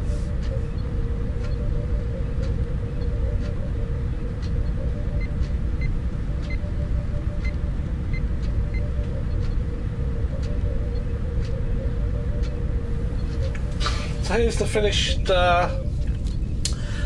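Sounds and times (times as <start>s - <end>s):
turntable motor hum: 0.0s - 16.7s
faint ticking: 0.0s - 17.0s.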